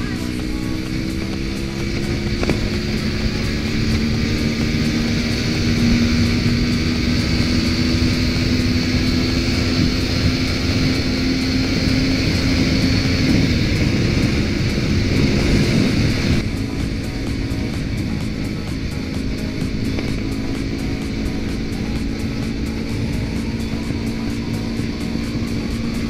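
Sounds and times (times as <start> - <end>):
motorcycle engine running: 0.0 - 26.0
wind rumble on microphone: 0.0 - 26.0.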